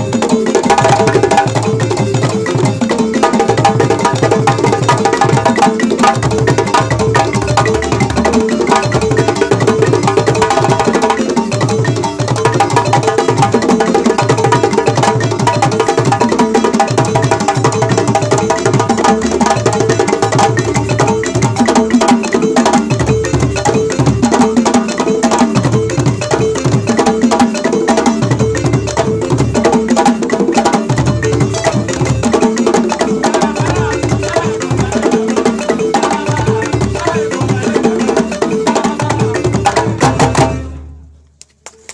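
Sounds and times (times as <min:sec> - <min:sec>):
balafon playing fast runs: 0:00.0 - 0:40.8
hand drums: 0:00.0 - 0:41.0.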